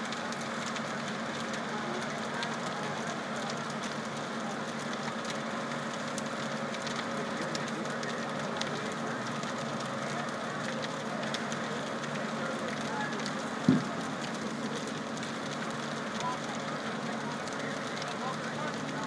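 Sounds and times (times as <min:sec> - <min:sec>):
fire crackling and popping: 0:00.0 - 0:19.0
fire engine pump running: 0:00.0 - 0:19.0.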